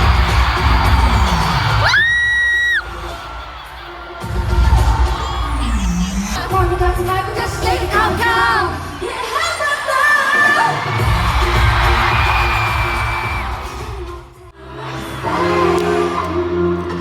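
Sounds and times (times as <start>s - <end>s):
female voices singing pop song: 0.0s - 17.0s.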